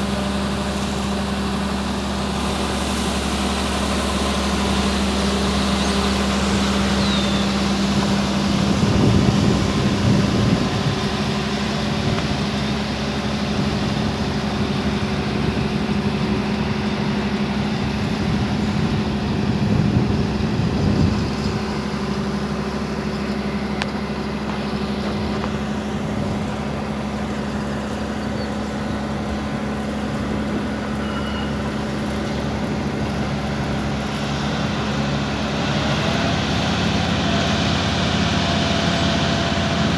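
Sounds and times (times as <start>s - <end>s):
large vehicle engine running: 0.0s - 39.9s.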